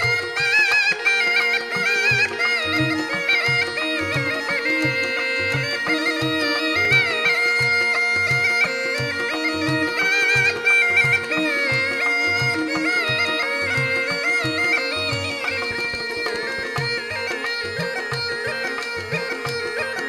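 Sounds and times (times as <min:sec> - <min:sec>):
reed pipe melody: 0:00.0 - 0:20.0.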